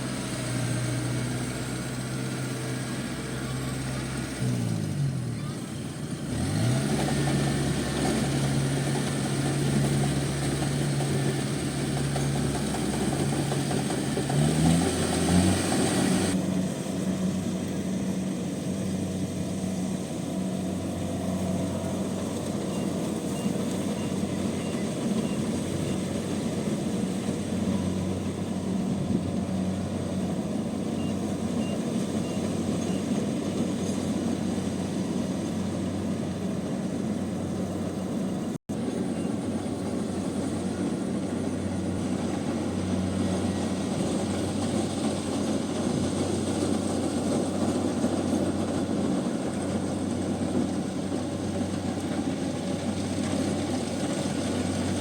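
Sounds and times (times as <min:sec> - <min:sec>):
combine harvester engine running: 0:00.0 - 0:55.0.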